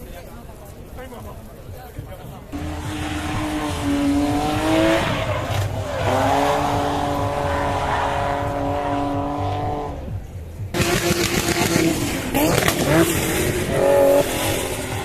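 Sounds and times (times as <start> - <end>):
tyre noise: 1.2 - 15.0
car engine at high revs: 2.6 - 15.0.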